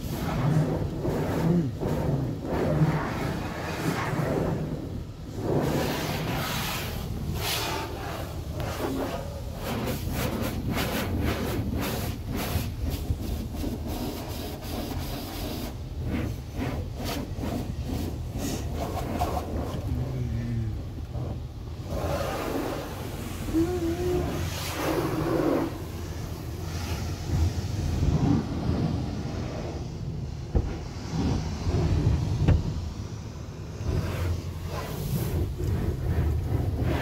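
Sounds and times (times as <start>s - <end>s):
high-pressure water spray hissing: 0.0s - 37.0s
low steady rumble: 0.0s - 37.0s.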